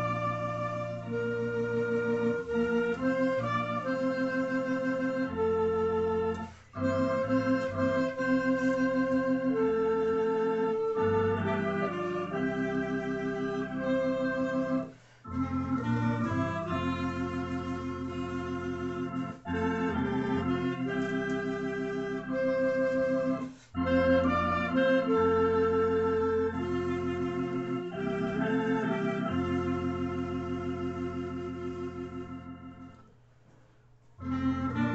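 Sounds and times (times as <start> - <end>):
clarinet: 0.0 - 33.1, 34.2 - 34.9
electronic organ playing a hymn: 0.0 - 33.1, 34.2 - 34.9.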